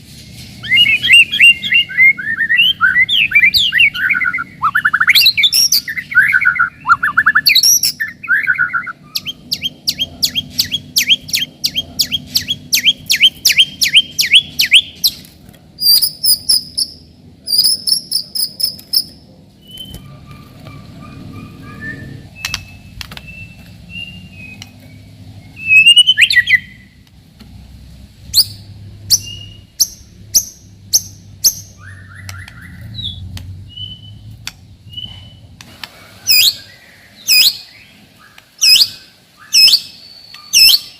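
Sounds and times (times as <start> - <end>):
bird singing: 0.6 - 15.2, 15.8 - 27.0, 28.3 - 35.6, 36.3 - 40.9.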